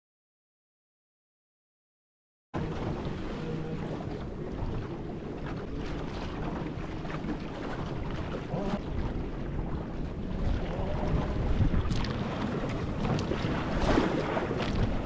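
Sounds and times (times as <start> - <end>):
water splashing along boat hull: 2.6 - 15.0
wind buffeting microphone: 2.6 - 15.0.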